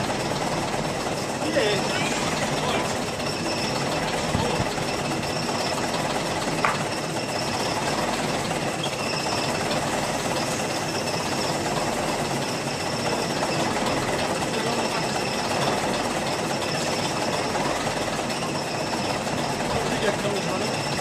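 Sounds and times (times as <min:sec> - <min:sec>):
machine running with whine: 0:00.0 - 0:21.0.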